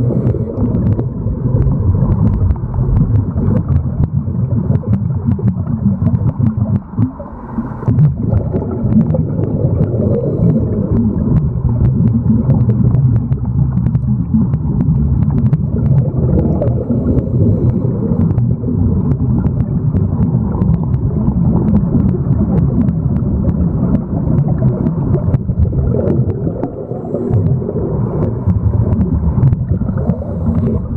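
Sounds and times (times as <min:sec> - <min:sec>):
small underwater clicks: 0:00.0 - 0:30.9
underwater rumble and gurgling: 0:00.0 - 0:30.9.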